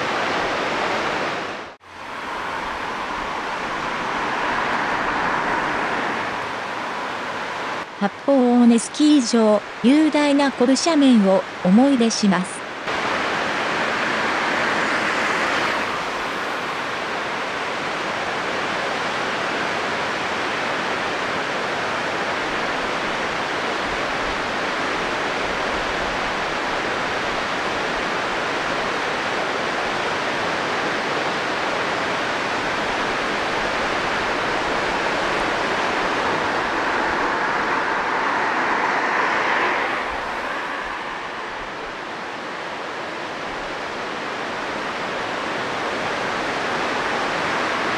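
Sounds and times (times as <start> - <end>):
steady rushing noise: 0.0 - 47.9.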